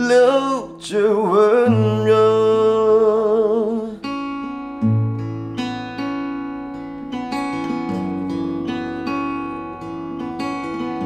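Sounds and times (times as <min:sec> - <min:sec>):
acoustic guitar fingerpicking: 0:00.0 - 0:11.0.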